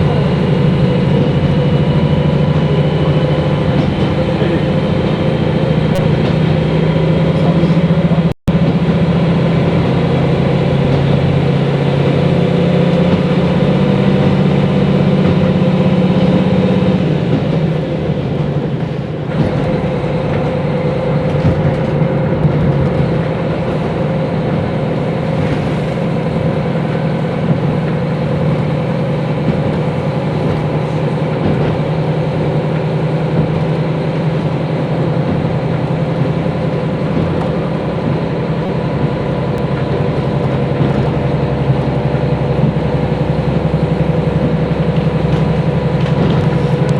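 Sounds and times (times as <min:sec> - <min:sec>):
diesel engine droning: 0:00.0 - 0:46.9
train running noise: 0:00.0 - 0:46.9.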